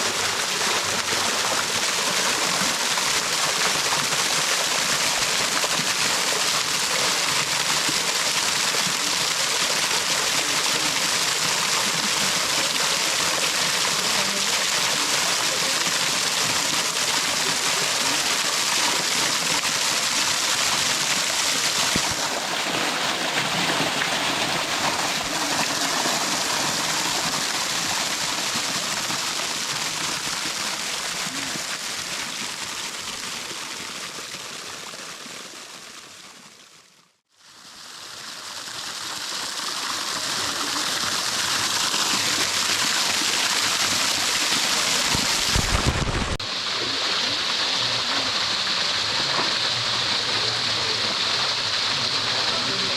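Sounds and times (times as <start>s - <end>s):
rushing waterfall: 0.0s - 36.9s, 37.5s - 52.9s.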